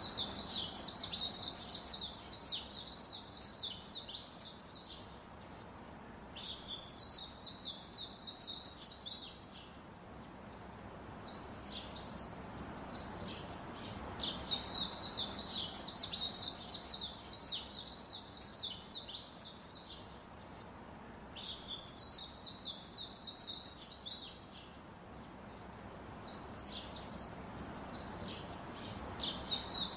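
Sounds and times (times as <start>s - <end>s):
small birds chirping: 0.0s - 29.9s
steady background hiss: 0.0s - 29.9s.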